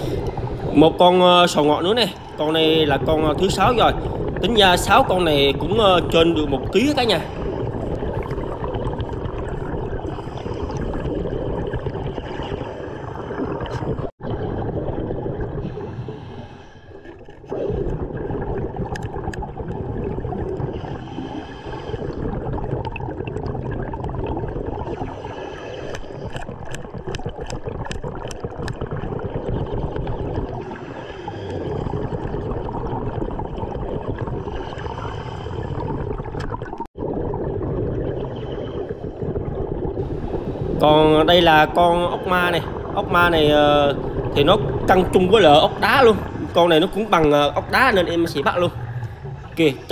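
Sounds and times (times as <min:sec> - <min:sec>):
underwater air bubbles gurgling: 0:00.0 - 0:49.9.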